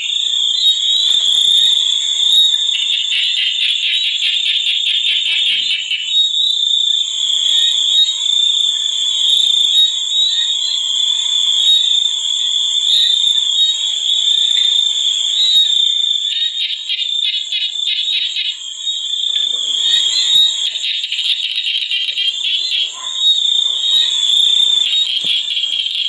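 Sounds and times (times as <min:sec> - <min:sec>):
fast pulsing frog call: 0:00.0 - 0:26.0
high-pitched insect drone: 0:00.0 - 0:26.0.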